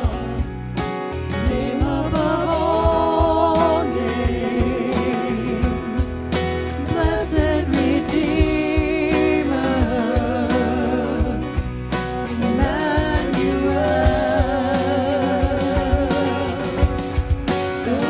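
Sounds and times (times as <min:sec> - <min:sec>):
drum and cymbal hits: 0:00.0 - 0:18.0
worship band playing: 0:00.0 - 0:18.0.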